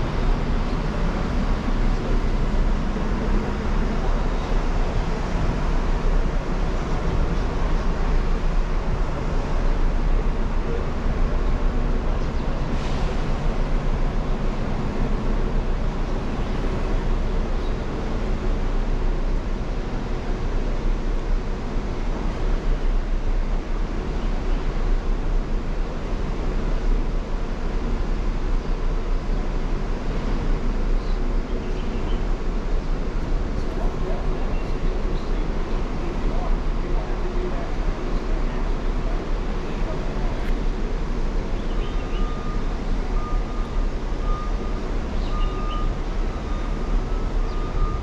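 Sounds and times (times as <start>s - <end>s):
loud rushing noise with rumble: 0.0s - 48.0s.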